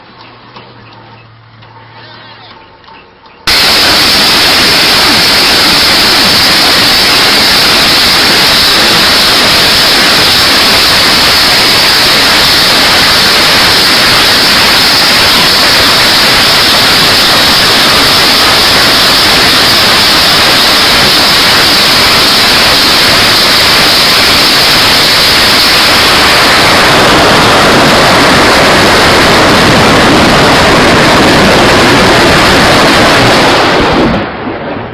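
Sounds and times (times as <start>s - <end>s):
roar of rockets launching: 3.5s - 34.9s.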